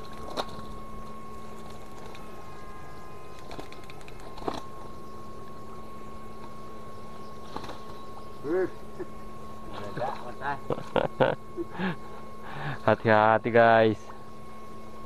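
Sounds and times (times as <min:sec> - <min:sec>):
steady high-pitched hum: 0:00.0 - 0:15.0.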